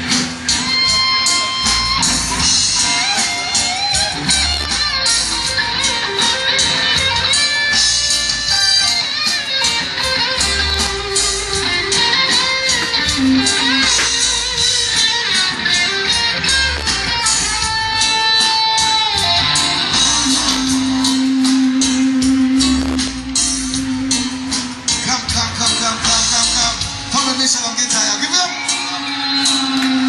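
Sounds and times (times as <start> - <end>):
guitar: 0.0 - 30.0
live reggae band playing: 0.0 - 30.0.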